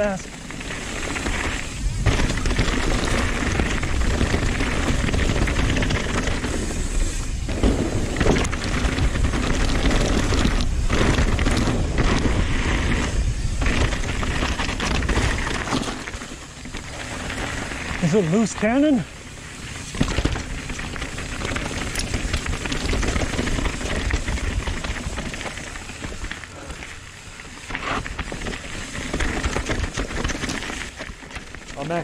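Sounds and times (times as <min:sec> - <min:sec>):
mountain bike rattling: 0:00.0 - 0:32.0
tyres on loose dirt and rocks: 0:00.0 - 0:32.0.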